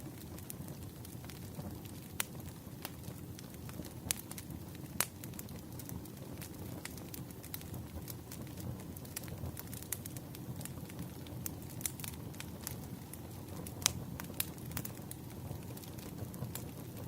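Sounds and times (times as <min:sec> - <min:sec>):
low rumble of burning logs: 0:00.0 - 0:17.0
wood fire crackling and popping: 0:00.0 - 0:17.0.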